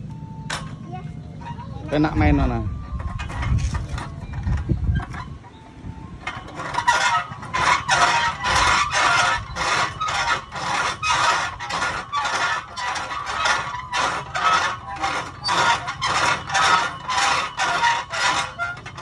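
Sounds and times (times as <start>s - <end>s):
elliptical machine squeaking: 0.1s - 19.0s.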